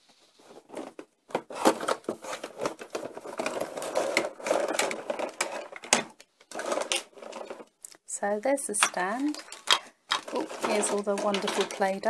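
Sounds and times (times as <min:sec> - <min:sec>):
cardboard and plastic rustling: 0:00.0 - 0:07.8, 0:08.8 - 0:12.0.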